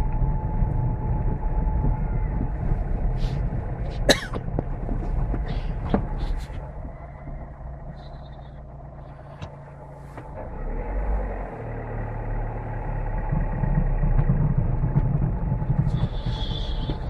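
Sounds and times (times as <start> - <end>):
car rumbling on snowy road: 0.0 - 17.0.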